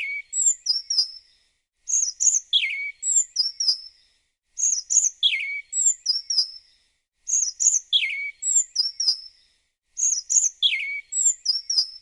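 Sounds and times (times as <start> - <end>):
songbird chirping phrase: 0.0 - 12.0.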